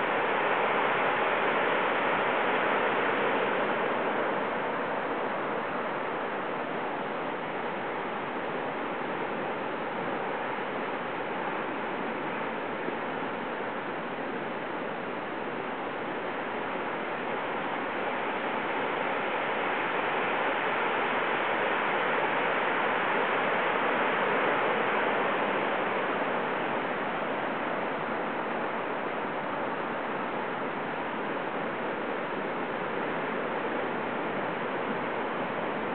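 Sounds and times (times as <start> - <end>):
heavy surf breaking on beach: 0.0 - 35.9.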